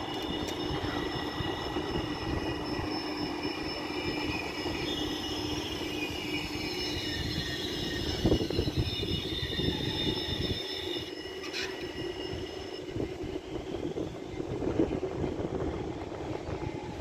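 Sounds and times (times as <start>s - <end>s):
high whining tones: 0.0s - 17.0s
tram wheels rumbling on rail: 0.0s - 17.0s.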